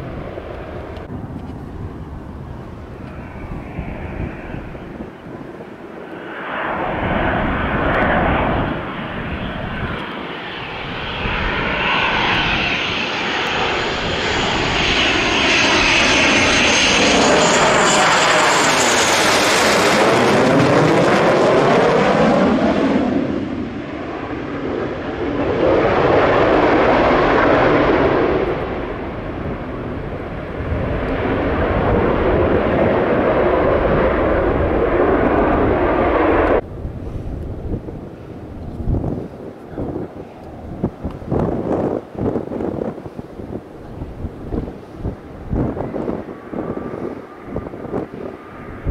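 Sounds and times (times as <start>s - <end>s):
jet passing overhead with whine: 0.0s - 48.9s.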